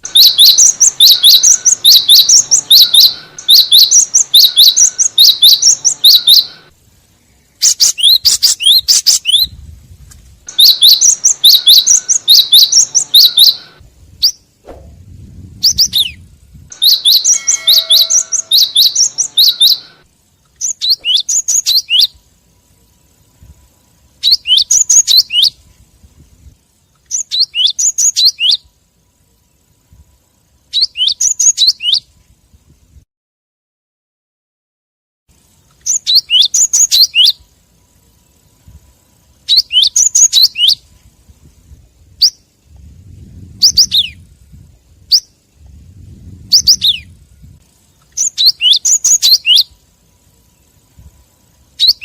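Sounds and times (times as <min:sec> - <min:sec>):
bird rapid high chirps: 0:00.0 - 0:09.6, 0:10.5 - 0:14.9, 0:15.5 - 0:29.8, 0:30.6 - 0:32.1, 0:35.4 - 0:41.0, 0:42.0 - 0:42.6, 0:43.6 - 0:44.3, 0:45.0 - 0:45.5, 0:46.4 - 0:52.0.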